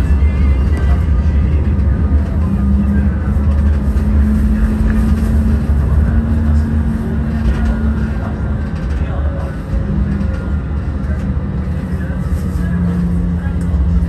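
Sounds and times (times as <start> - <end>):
tram rumbling on track: 0.0 - 14.0.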